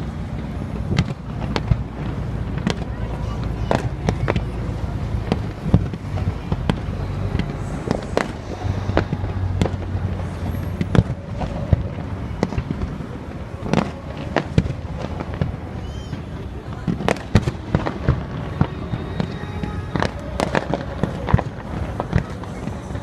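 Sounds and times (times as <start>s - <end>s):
fireworks bangs and cracks: 0.0s - 23.0s
low rumble: 0.0s - 23.0s.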